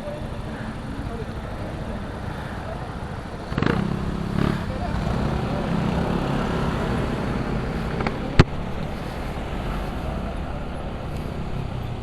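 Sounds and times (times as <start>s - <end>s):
motor scooter engine running: 0.0s - 12.0s
wind and road noise: 0.0s - 12.0s.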